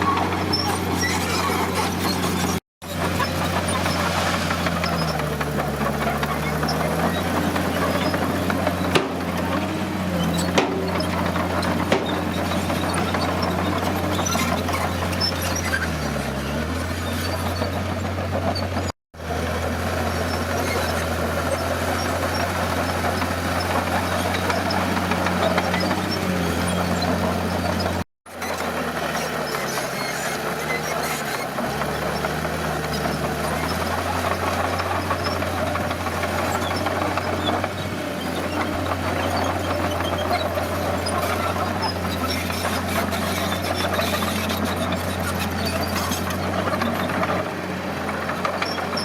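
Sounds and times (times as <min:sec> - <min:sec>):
bulldozer diesel engine under load: 0:00.0 - 0:49.0.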